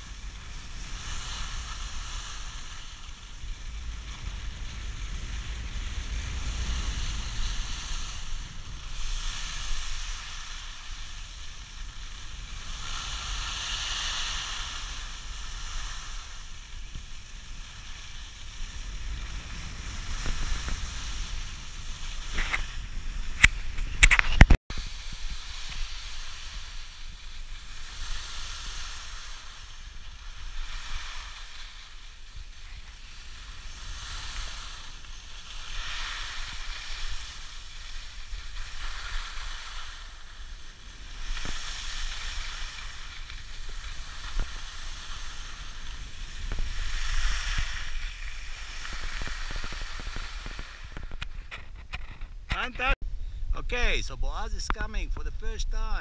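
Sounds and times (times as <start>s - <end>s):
skis scraping over snow: 0.0s - 53.0s
wind rumble on microphone: 0.0s - 56.0s.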